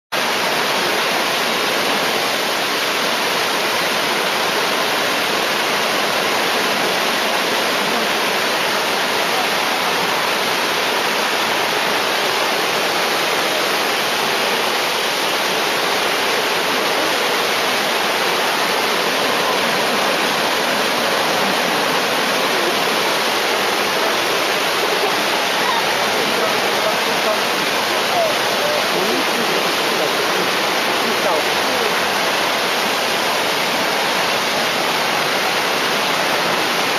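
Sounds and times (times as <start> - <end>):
whitewater rushing: 0.2 - 36.9.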